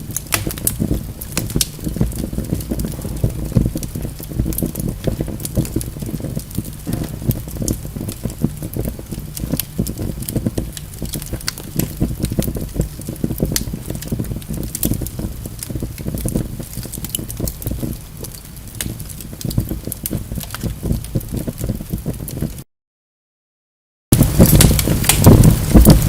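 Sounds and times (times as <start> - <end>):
logs crackling in fireplace: 0.0 - 22.6, 24.2 - 26.0
sharp pops of burning wood: 0.0 - 22.6, 24.2 - 26.0.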